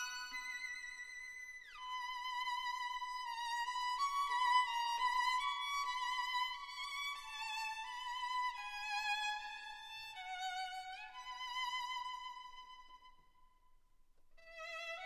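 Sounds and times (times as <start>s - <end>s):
slow violin melody: 0.0s - 13.2s, 14.4s - 15.0s.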